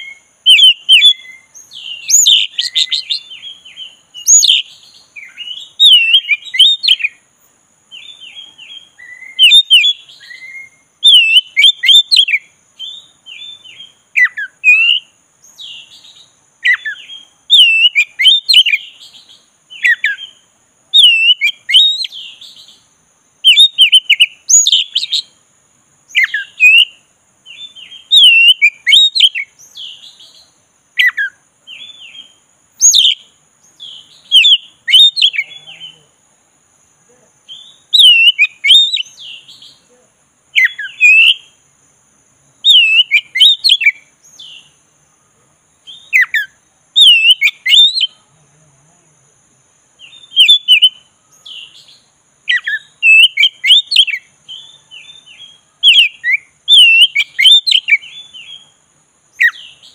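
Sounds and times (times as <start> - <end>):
bird singing whistled notes: 0.0 - 25.4, 26.0 - 36.2, 37.4 - 48.3, 50.0 - 59.9.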